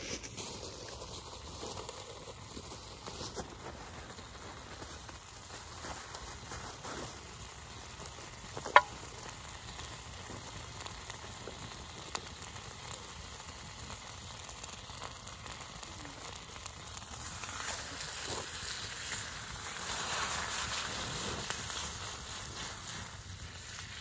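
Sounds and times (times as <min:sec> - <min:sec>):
beef sizzling in a pan: 0:00.0 - 0:24.0.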